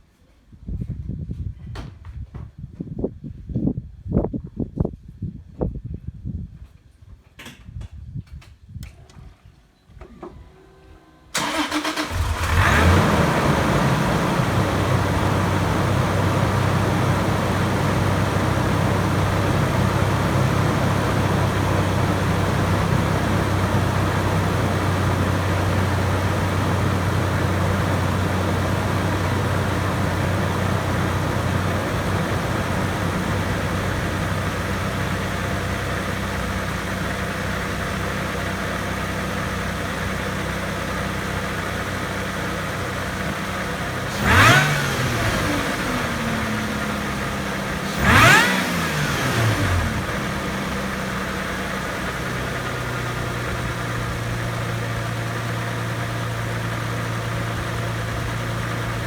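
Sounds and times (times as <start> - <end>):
supercharged engine idling: 11.3 - 59.0.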